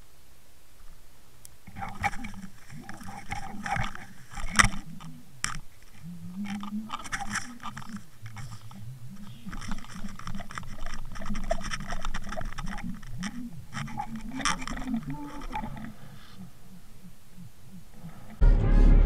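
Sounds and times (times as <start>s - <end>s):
underwater scraping and knocking: 1.7s - 17.1s.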